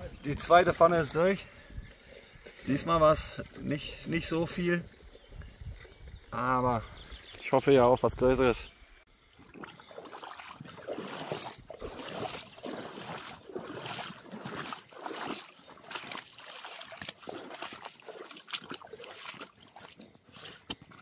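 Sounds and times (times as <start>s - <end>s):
footsteps wading through stream: 0.4s - 6.3s, 9.2s - 21.0s.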